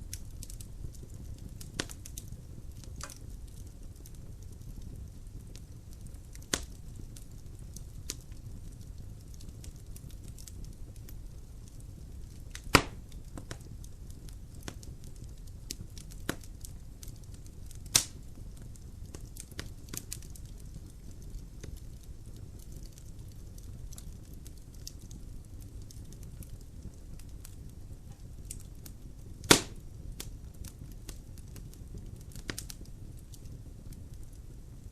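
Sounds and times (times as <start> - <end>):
logs crackling in fireplace: 0.0 - 34.9
loud fire pops: 0.0 - 34.9
low rumble of fire: 0.0 - 34.9.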